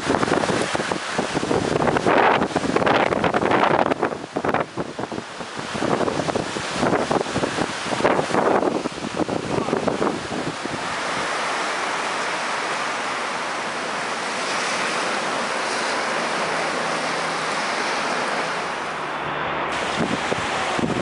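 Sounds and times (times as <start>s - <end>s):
storm wind in tree branches: 0.0s - 21.0s.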